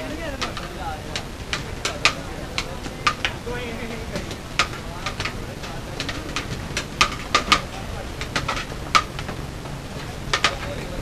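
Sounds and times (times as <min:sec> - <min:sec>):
voices chattering: 0:00.0 - 0:11.0.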